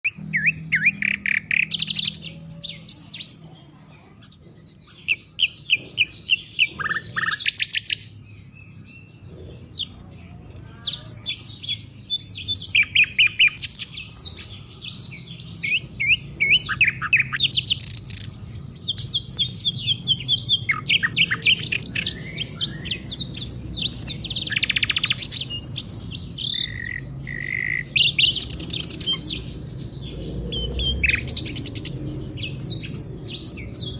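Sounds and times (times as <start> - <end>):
songbirds chirping and whistling: 0.0 - 33.9.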